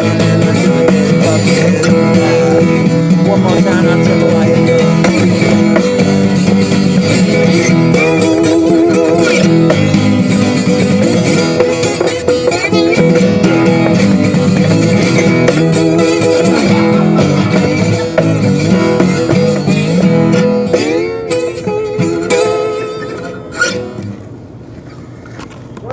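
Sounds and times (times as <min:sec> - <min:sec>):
live guitar music: 0:00.0 - 0:25.1.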